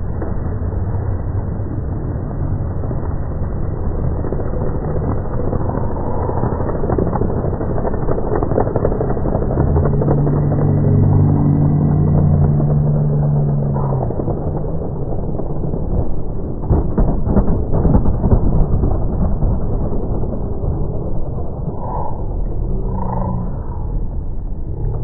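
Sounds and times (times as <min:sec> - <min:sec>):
engine drone: 0:00.0 - 0:25.0
muffled vehicle rumble: 0:00.0 - 0:25.0.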